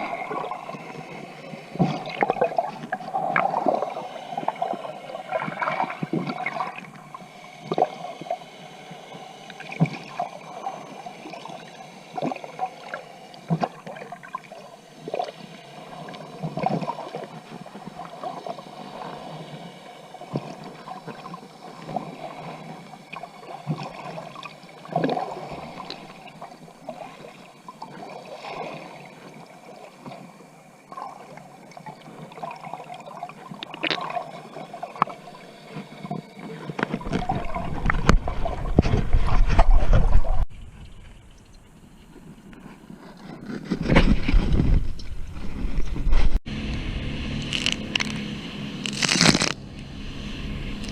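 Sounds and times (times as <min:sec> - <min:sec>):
water gurgling and splashing: 0:00.0 - 0:40.5, 0:47.3 - 0:50.9.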